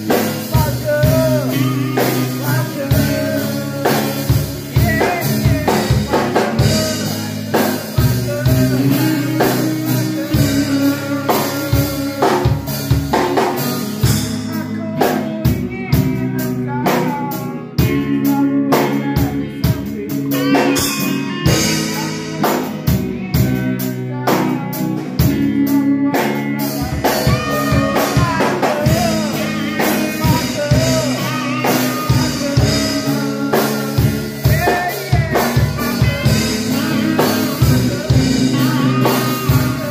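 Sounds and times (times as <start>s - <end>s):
drum kit rock beat: 0.0s - 39.9s
electric guitar with bent notes: 0.0s - 39.9s.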